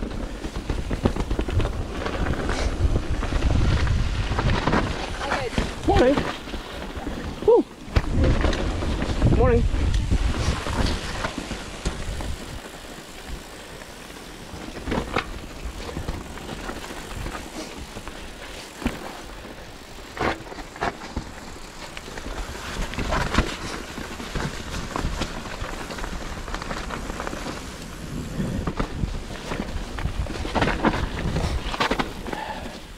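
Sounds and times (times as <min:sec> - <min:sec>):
bike tyres rushing on dirt: 0:00.0 - 0:32.9.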